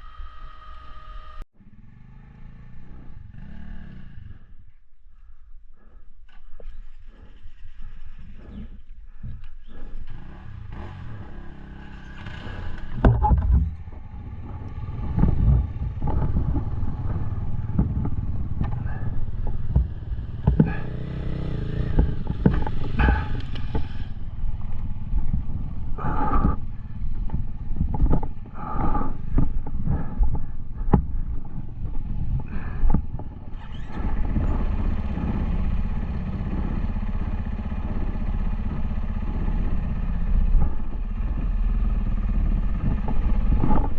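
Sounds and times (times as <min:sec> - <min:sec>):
motorcycle engine running: 0:00.1 - 0:04.6, 0:05.8 - 0:43.9.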